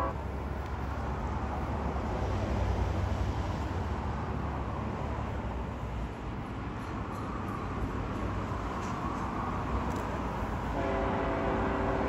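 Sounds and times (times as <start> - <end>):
distant locomotive rumble: 0.0 - 12.0.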